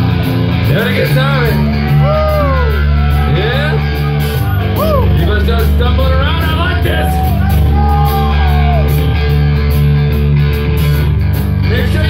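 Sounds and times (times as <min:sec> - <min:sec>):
bass guitar: 0:00.0 - 0:12.0
electric guitar: 0:00.0 - 0:12.0.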